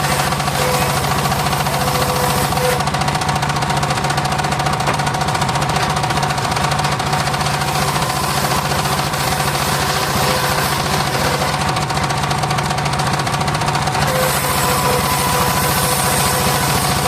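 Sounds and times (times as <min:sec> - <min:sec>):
engine chugging: 0:00.0 - 0:17.0
spinning saw whine: 0:00.0 - 0:17.0.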